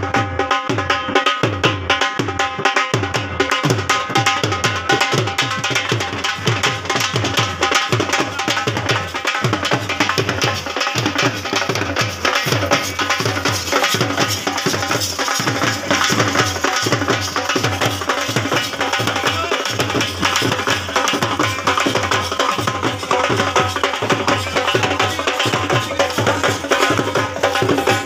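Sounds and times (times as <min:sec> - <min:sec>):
hand drums with sliding pitch: 0:00.0 - 0:28.0
sharp percussion hits: 0:00.0 - 0:28.0.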